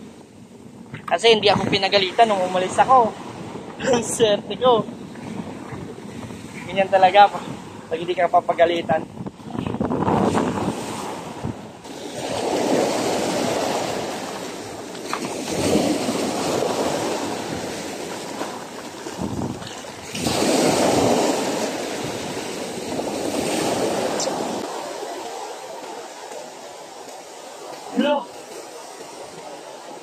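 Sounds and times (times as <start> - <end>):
sea surf breaking: 0.0 - 30.0.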